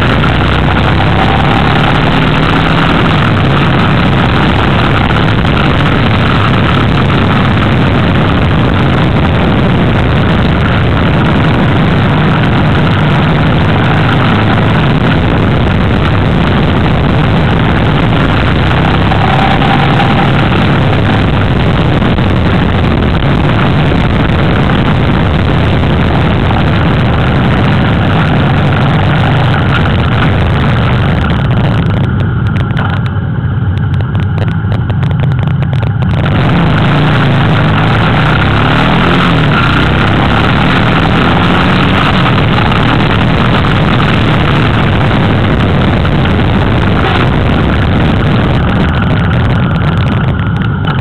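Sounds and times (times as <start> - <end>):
motorcycle engine running: 0.0 - 51.0
wind noise on microphone: 0.0 - 51.0.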